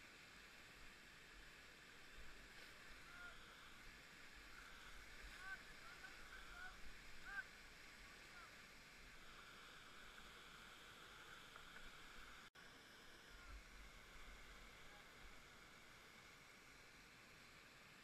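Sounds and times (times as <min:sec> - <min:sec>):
faint river water rushing: 0:00.0 - 0:18.0.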